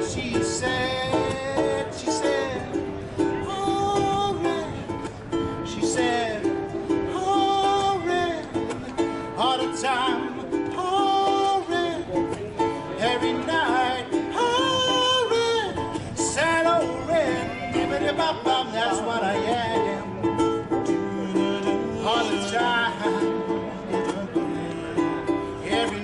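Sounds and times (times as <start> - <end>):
sliding lead melody line: 0.0 - 26.0
strummed acoustic strings: 0.0 - 26.0.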